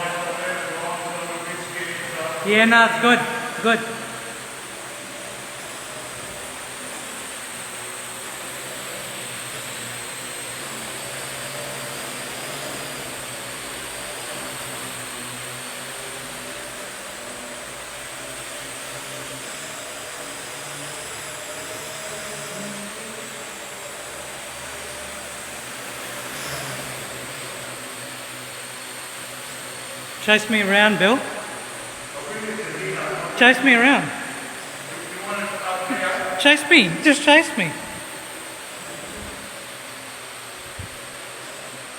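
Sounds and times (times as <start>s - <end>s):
drone propellers whirring: 0.0s - 41.9s.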